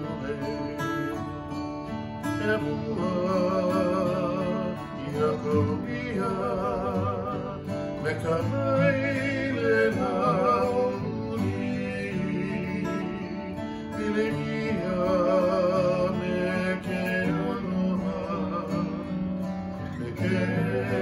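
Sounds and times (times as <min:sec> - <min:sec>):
acoustic guitars strummed: 0:00.0 - 0:21.0
person singing with vibrato: 0:00.0 - 0:21.0.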